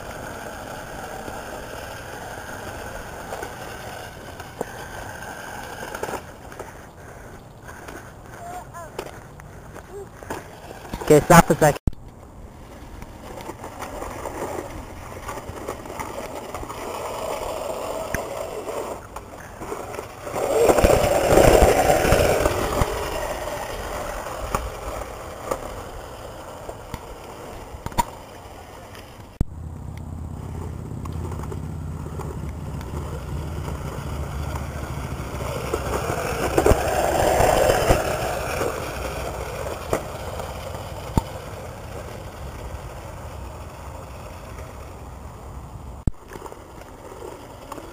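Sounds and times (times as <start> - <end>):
scooter wheels rattling: 0.0 - 47.9.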